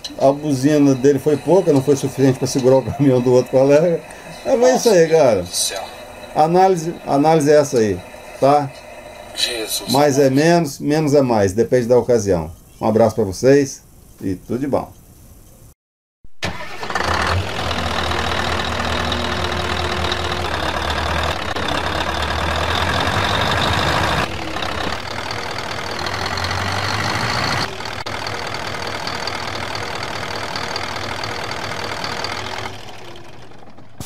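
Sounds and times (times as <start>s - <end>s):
truck engine starting and running: 0.0s - 10.5s, 16.3s - 34.0s.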